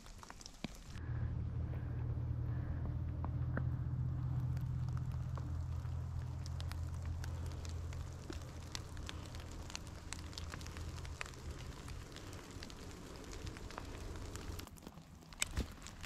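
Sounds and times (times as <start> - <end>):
raindrops pattering: 0.0 - 1.0, 2.5 - 16.0
low rumble: 0.9 - 14.7.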